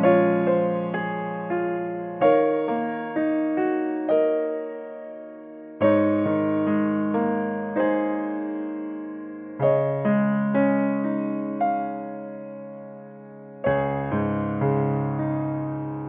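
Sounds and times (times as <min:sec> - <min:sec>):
slow electric piano melody: 0:00.0 - 0:16.0.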